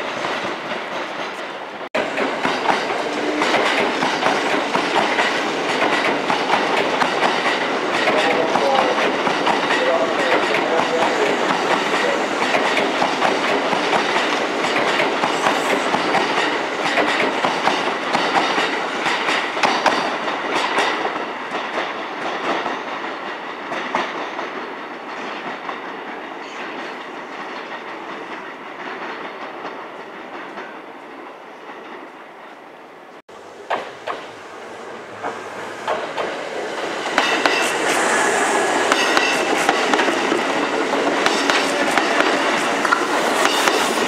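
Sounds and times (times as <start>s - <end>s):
train wheels clacking over rail joints: 0.0s - 32.1s, 33.4s - 44.0s.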